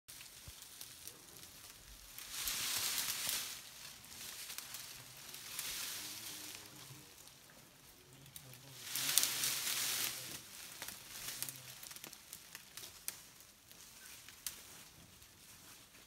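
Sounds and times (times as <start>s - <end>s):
branches cracking and snapping: 0.1s - 15.0s
branches and leaves rustling: 0.1s - 16.0s.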